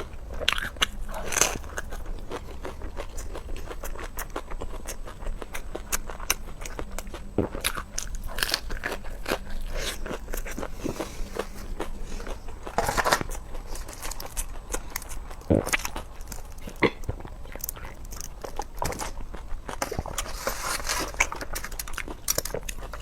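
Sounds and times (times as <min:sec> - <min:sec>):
person chewing crisp food: 0:00.0 - 0:23.0.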